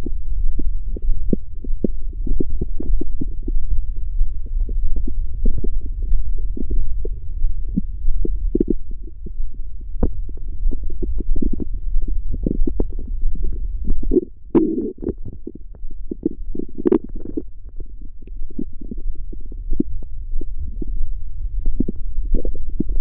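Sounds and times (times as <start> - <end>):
stomach growling and gurgling: 0.0 - 23.0.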